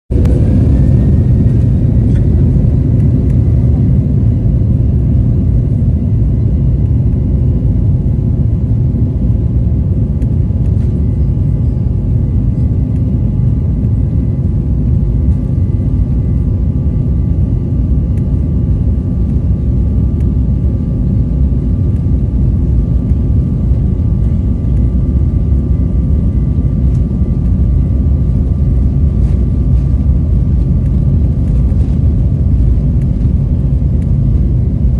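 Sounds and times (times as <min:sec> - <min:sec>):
jet engine whine rising: 0:00.1 - 0:34.9
jet engines rumbling in cabin: 0:00.1 - 0:34.9.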